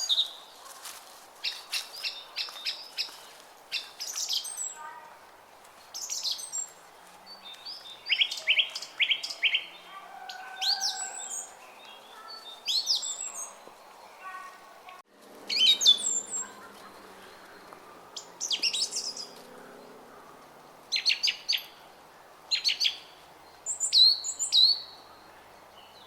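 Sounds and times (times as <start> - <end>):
songbirds chirping and singing: 1.4 - 5.2, 5.8 - 26.0.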